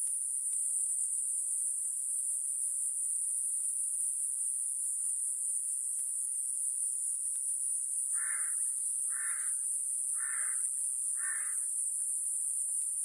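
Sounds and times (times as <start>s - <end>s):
cicada high-pitched buzz: 0.1s - 13.0s.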